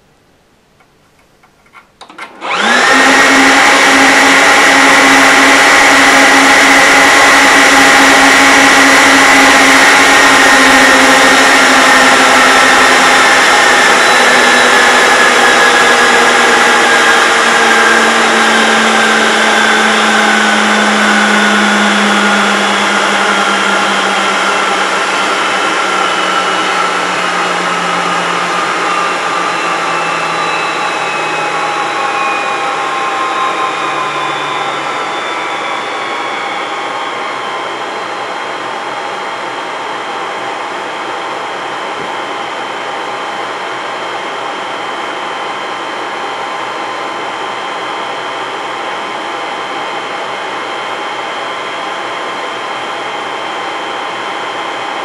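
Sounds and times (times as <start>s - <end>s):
server cooling fans whining: 0.0s - 55.0s.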